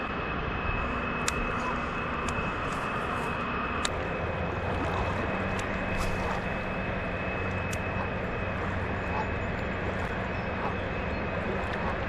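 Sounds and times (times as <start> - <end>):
low hum: 0.0 - 12.0
river current rushing: 1.6 - 12.0.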